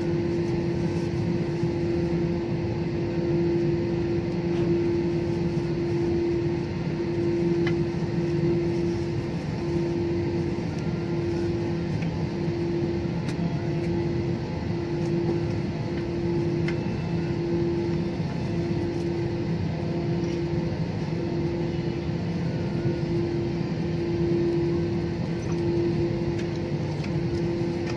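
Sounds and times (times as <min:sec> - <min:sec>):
jet engines humming: 0:00.0 - 0:27.9
low rumble of rolling aircraft: 0:00.0 - 0:27.9.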